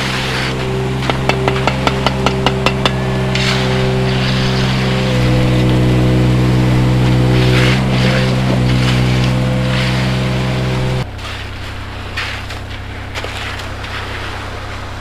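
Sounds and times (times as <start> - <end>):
heavy machine engine drone: 0.0 - 15.0.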